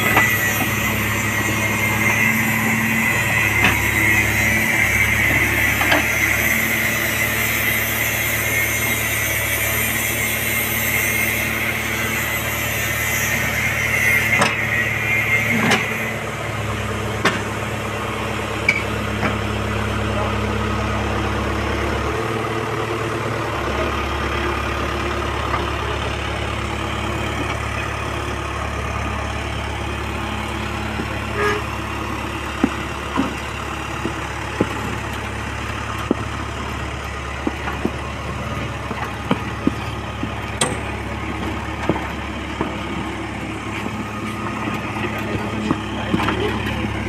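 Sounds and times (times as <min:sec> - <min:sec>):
diesel engine running at low revs: 0:00.0 - 0:47.0.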